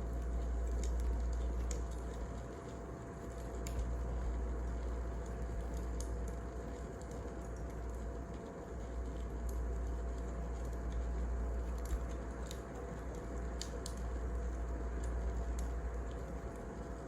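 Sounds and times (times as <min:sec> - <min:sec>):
steady low hum: 0:00.0 - 0:17.0
wood fire crackling: 0:00.0 - 0:17.0.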